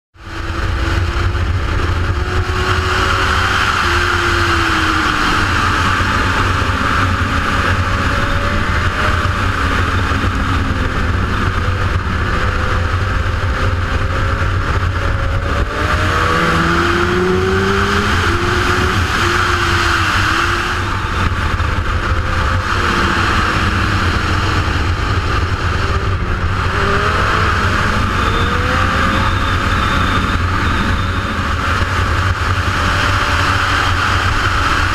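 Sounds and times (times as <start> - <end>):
motorcycle engine revving: 0.2 - 34.9
wind rushing over camera: 0.2 - 34.9.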